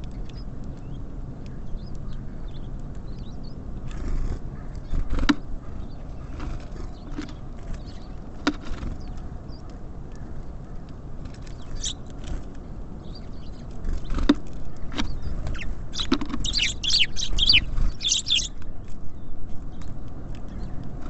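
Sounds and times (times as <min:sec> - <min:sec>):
low background rumble: 0:00.0 - 0:21.0
songbirds chirping: 0:00.0 - 0:21.0.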